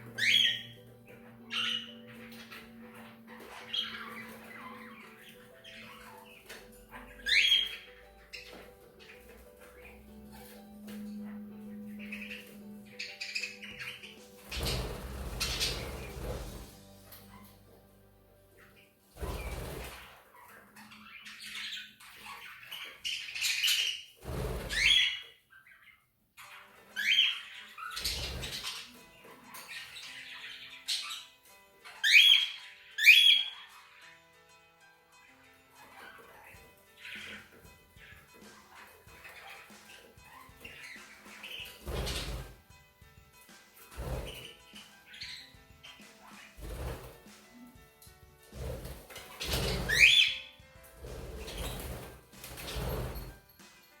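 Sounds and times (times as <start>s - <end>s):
harsh bird squawks: 0.0s - 16.7s, 18.5s - 34.2s, 35.2s - 42.6s, 44.0s - 47.1s, 48.7s - 52.1s
budgerigars chattering: 0.0s - 17.6s, 18.4s - 34.2s, 35.4s - 42.6s, 43.9s - 47.3s, 48.6s - 53.3s.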